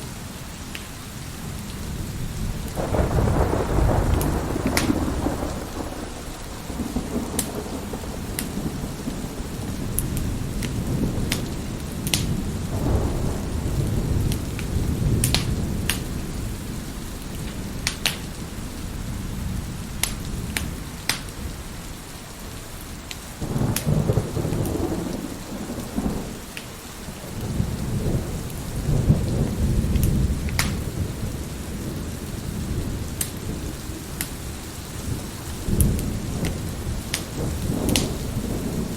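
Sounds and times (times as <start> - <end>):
steady rain: 0.0 - 38.9
rolling thunder: 1.5 - 21.8, 23.4 - 38.9
wood fire crackling: 2.5 - 38.9.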